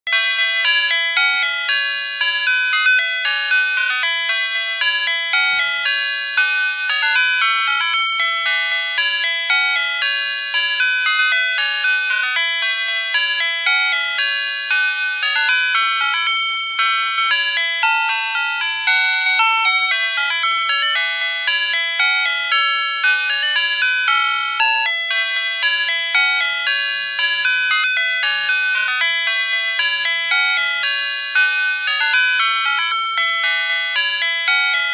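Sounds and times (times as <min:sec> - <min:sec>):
electronic alarm chime tune: 0:00.1 - 0:34.9.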